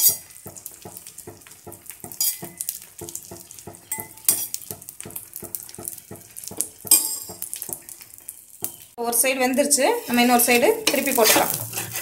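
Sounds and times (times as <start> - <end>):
oil crackling and popping: 0.0 - 9.0, 10.1 - 12.0.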